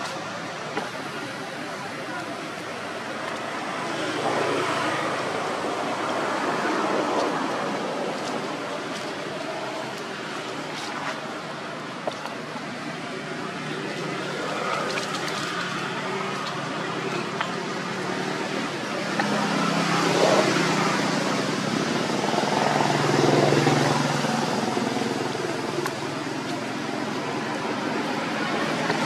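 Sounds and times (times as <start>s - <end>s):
traffic hum: 0.0s - 29.0s.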